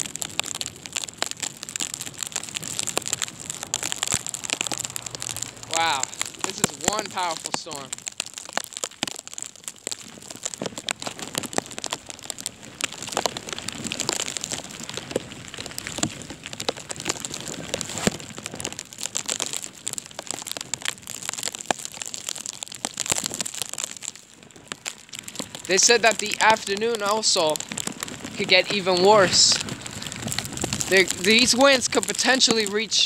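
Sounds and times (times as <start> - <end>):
crackling on phone microphone: 0.0 - 33.0.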